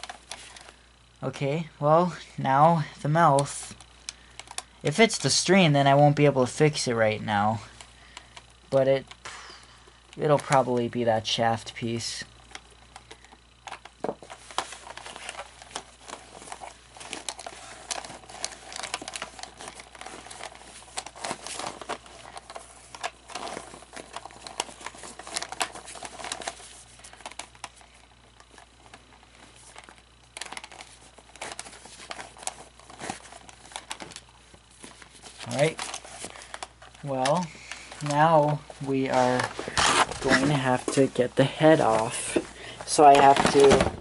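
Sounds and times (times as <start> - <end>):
plastic parts clicking and rustling: 0.0 - 0.8, 3.2 - 9.2, 10.1 - 44.0
faint steady hum: 0.0 - 44.0.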